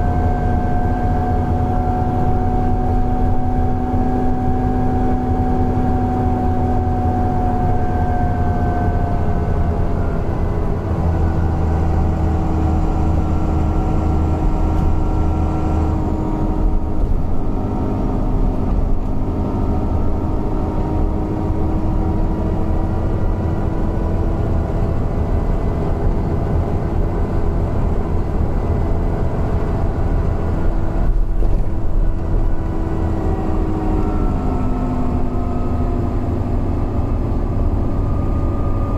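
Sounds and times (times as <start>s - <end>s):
bus engine drone with whine: 0.0s - 38.9s.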